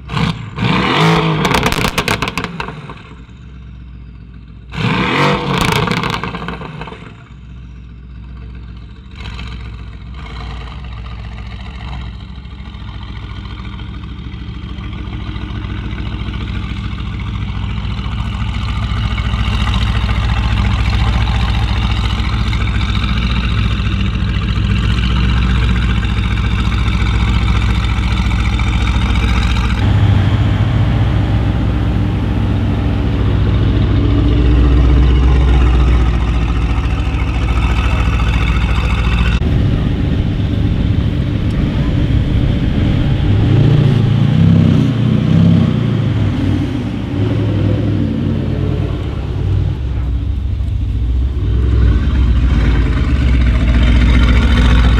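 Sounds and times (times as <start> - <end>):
car engine idling at low revs: 5.6 - 44.3, 45.1 - 54.9.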